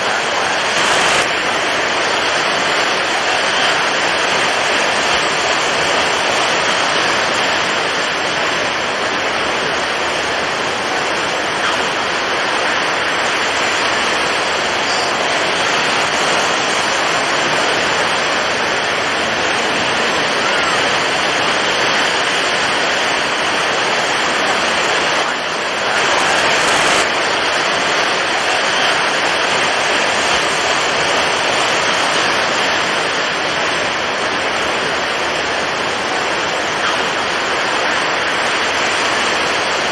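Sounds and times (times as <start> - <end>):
heavy surf: 0.0 - 39.9
strong wind: 0.0 - 39.9.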